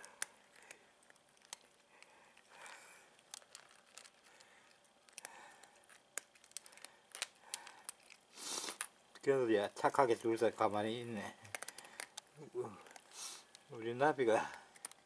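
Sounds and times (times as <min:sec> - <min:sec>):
cats crunching dry kibble: 0:00.0 - 0:15.0.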